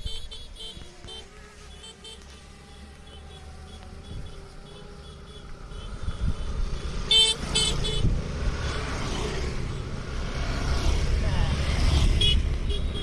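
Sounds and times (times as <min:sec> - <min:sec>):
motor vehicle rumble: 0:00.0 - 0:13.0.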